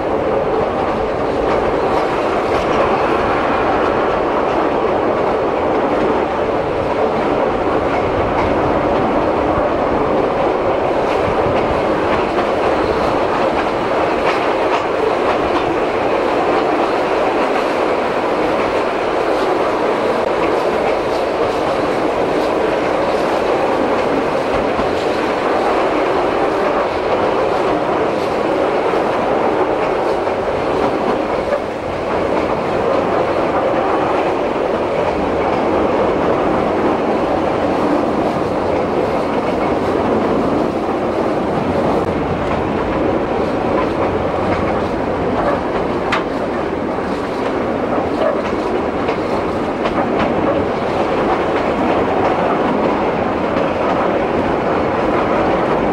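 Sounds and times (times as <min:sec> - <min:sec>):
train wheels rumbling and rattling: 0:00.0 - 0:55.9.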